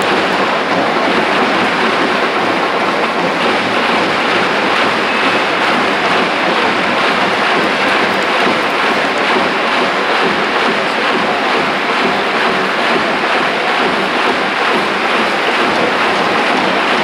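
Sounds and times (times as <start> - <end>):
stadium crowd noise: 0.0 - 17.0.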